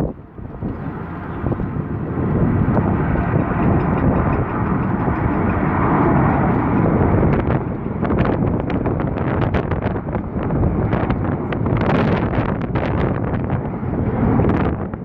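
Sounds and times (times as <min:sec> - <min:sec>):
jet engines at takeoff power: 0:00.0 - 0:15.0
wind buffeting microphone: 0:00.0 - 0:15.0.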